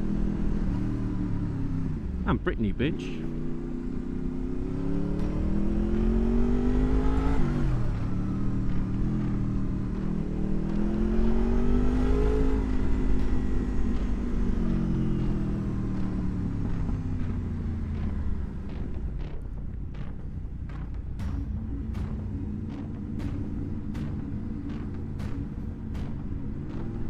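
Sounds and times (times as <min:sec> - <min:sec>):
motorcycle engine revving through gears: 0:00.0 - 0:02.2, 0:03.2 - 0:27.0.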